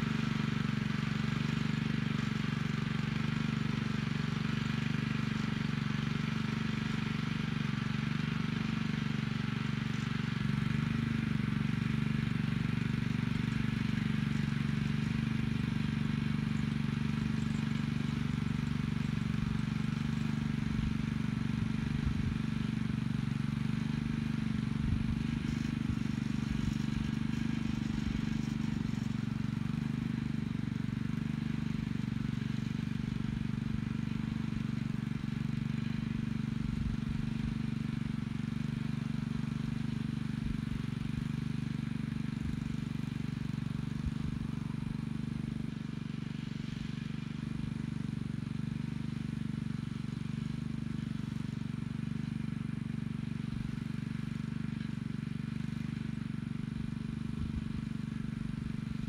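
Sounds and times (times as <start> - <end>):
small gas engine droning: 0.0 - 59.0.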